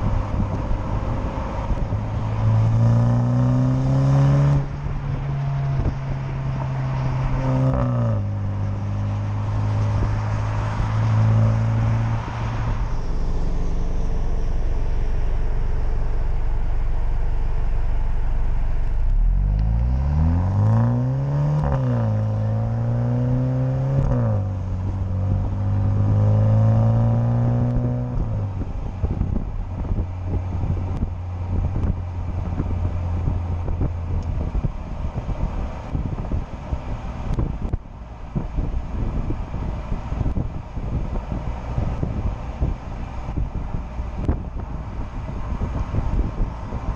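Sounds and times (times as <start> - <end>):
wind buffeting microphone: 0.0 - 16.8, 21.9 - 46.9
car engine exhaust: 0.0 - 46.9.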